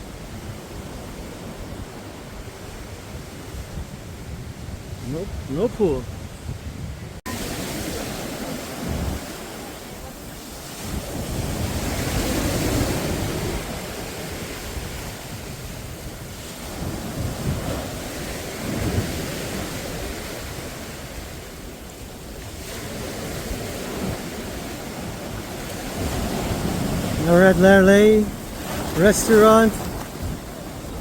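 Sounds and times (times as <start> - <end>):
sea waves washing onto shore: 0.0 - 31.0
wind rumbling on microphone: 0.0 - 31.0.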